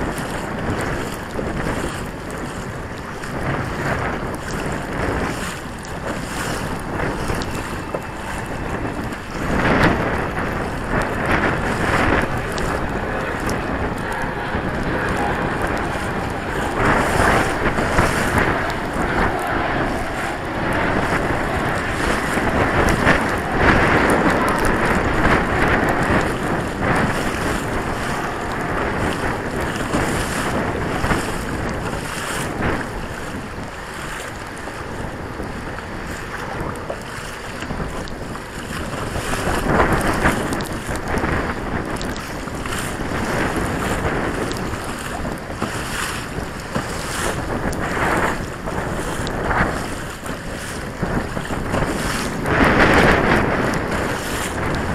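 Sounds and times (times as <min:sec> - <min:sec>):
water splashing against hull: 0:00.0 - 0:54.9
wind buffeting microphone: 0:00.0 - 0:54.9.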